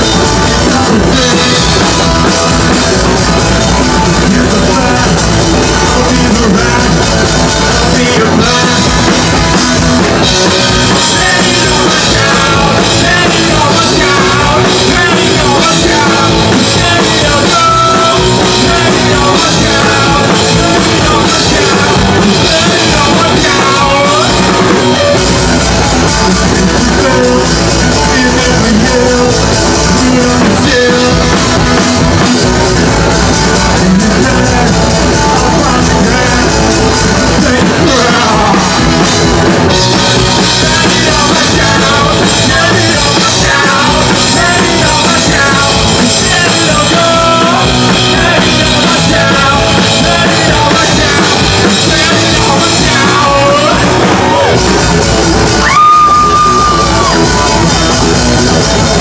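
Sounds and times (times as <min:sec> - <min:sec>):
man singing: 0:00.0 - 0:55.0, 0:55.6 - 0:59.0
drum kit: 0:00.0 - 0:59.0
electric guitar: 0:00.0 - 0:59.0.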